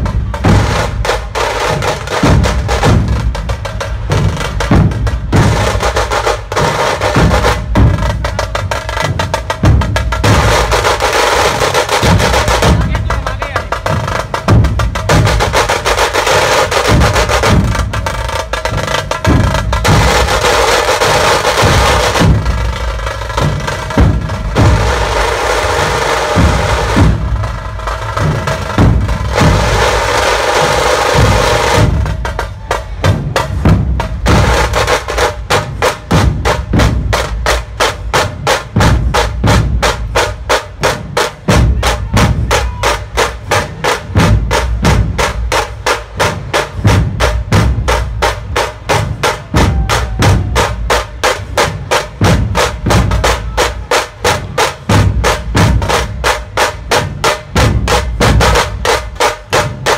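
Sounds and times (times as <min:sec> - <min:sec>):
bright music layer over drums: 0:00.0 - 0:59.9
fast steady drumming: 0:00.0 - 0:59.9.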